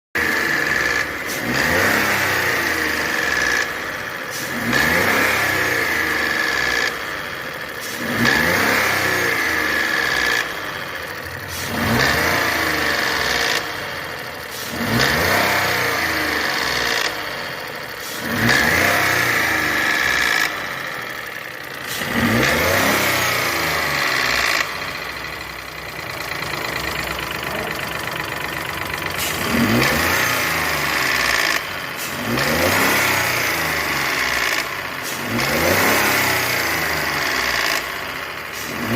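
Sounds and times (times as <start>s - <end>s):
car engine revving in blips: 0.2s - 38.9s.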